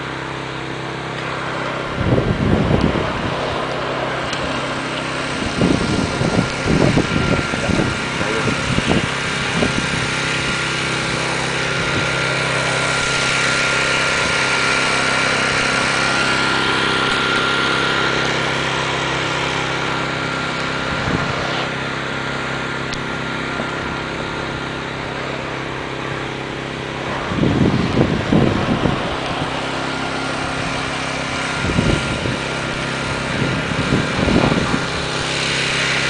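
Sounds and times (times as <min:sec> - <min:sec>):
engine running steadily: 0:00.0 - 0:36.0
high whine: 0:00.0 - 0:36.0.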